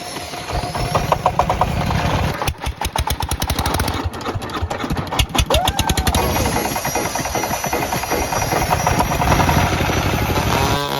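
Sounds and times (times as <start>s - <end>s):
diesel engine knocking: 0.2s - 10.7s.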